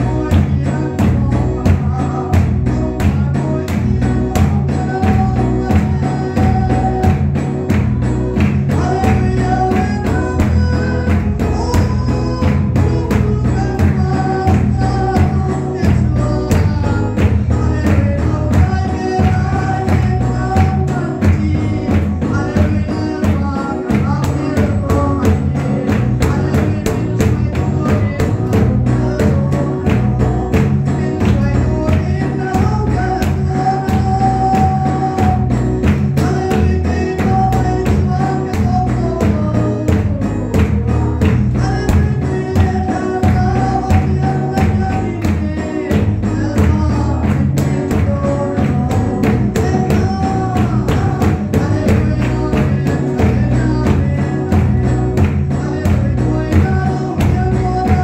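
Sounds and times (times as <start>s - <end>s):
amplified band accompaniment: 0.0s - 58.0s
bass line: 0.0s - 58.0s
drum kit steady beat: 0.0s - 58.0s
woman singing through pa: 0.0s - 58.0s.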